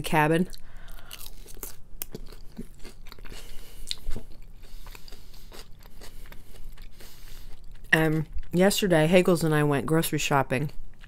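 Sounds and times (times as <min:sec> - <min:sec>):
crunching and chewing food: 0:00.2 - 0:09.6, 0:10.6 - 0:11.0.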